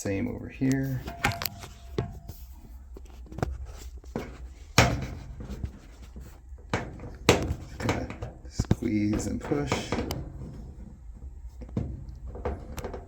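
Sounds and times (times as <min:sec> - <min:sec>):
rustling scrape: 0:00.0 - 0:13.0.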